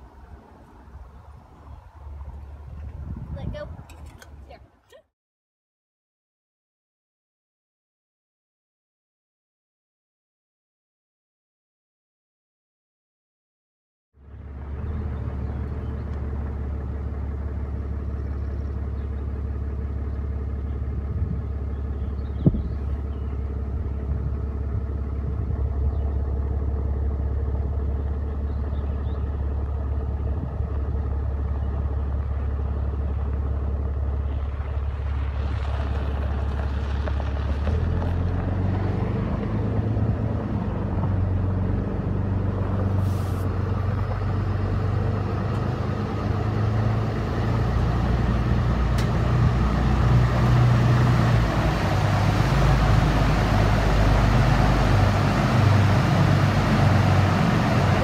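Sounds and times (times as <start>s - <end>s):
truck engine and road hum: 0.0s - 5.1s, 14.2s - 58.0s.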